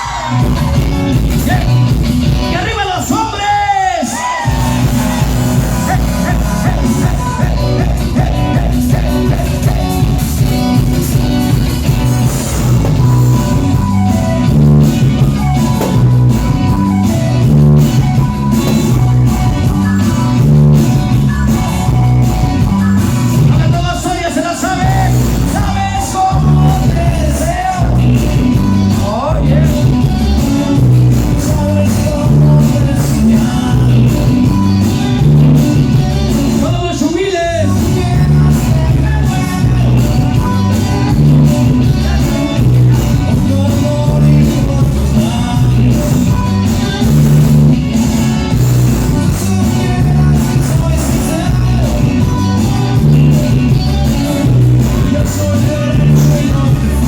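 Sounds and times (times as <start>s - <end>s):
rock music: 0.0s - 57.0s.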